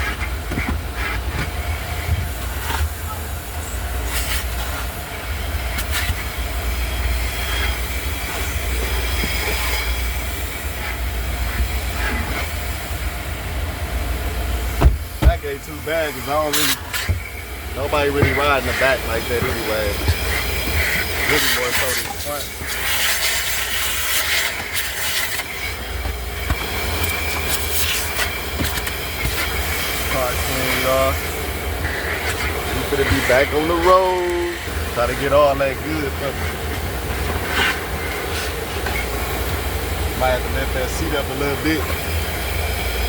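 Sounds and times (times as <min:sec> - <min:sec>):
vacuum running: 0:00.0 - 0:43.0.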